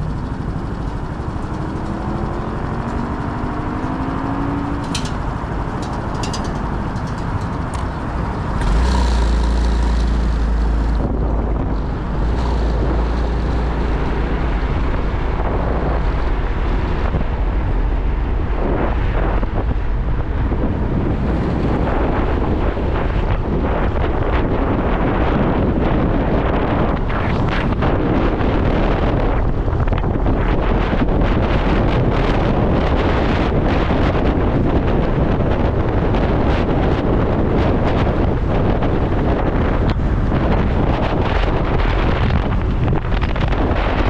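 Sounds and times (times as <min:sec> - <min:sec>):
motorcycle engine running: 0:00.0 - 0:44.0
wind noise on microphone: 0:00.0 - 0:44.0.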